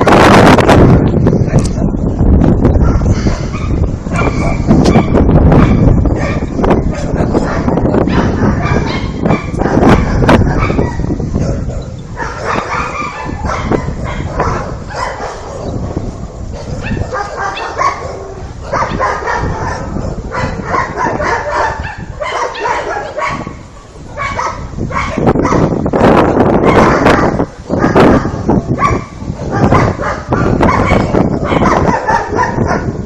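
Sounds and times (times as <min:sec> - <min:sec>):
dogs barking: 0:02.7 - 0:33.0.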